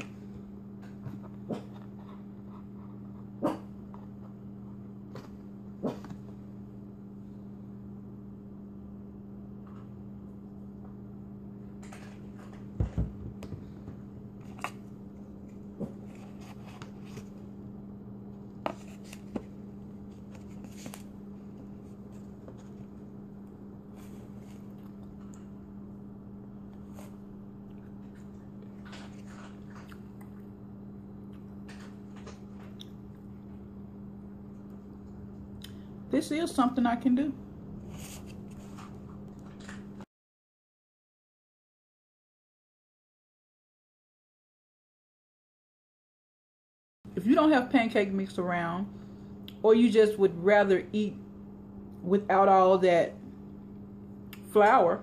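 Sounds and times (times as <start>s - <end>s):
low electrical hum: 0.0s - 40.1s, 47.1s - 55.0s.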